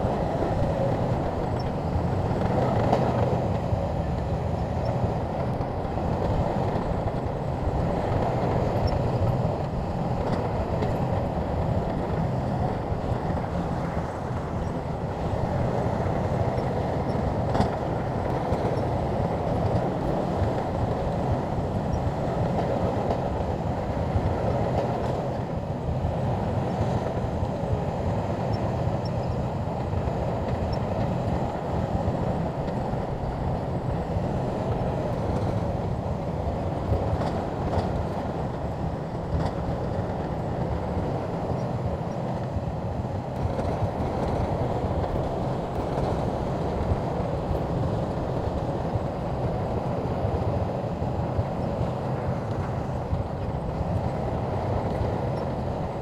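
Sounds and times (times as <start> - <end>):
bulldozer engine and tracks: 0.0 - 56.0.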